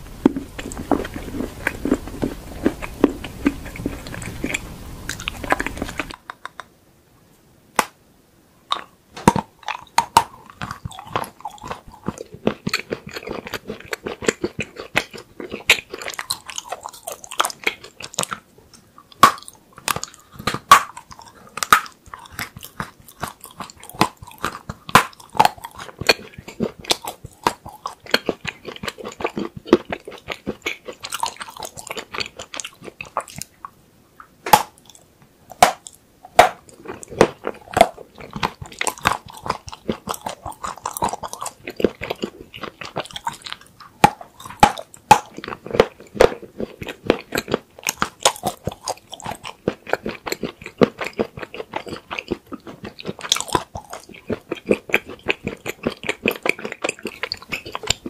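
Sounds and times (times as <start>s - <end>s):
crunching frozen chocolate: 0.1s - 6.3s, 8.7s - 33.5s, 34.5s - 58.0s.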